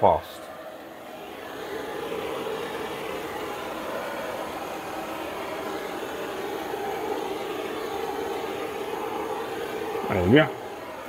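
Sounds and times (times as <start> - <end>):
blowtorch hissing: 0.0 - 11.0.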